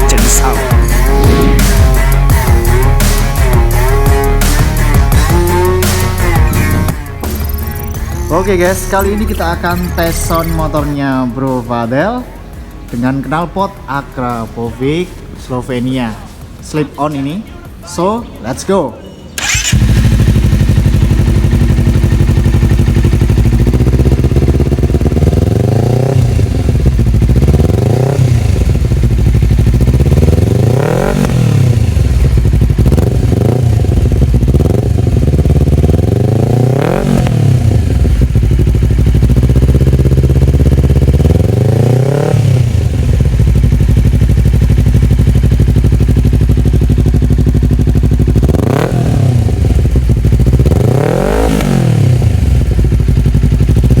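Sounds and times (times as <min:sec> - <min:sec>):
motorcycle engine revving: 0:00.0 - 0:10.9, 0:19.4 - 0:54.0.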